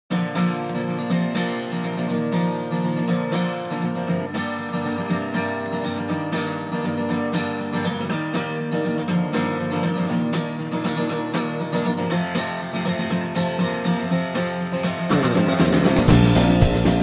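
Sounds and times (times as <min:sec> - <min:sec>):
acoustic guitar music: 0:00.1 - 0:17.0.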